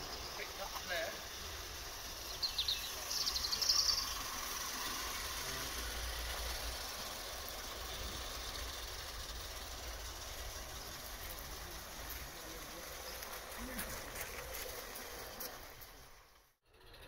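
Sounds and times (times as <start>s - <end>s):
soft steam hiss: 0.0s - 16.4s.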